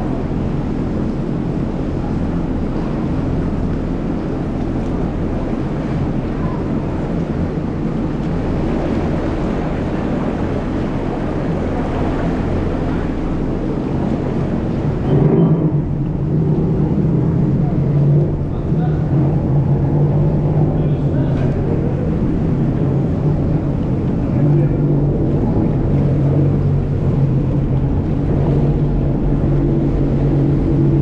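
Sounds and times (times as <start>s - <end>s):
jet ski engine hum: 0.0s - 31.0s
rushing water: 0.0s - 31.0s
wind: 0.0s - 31.0s.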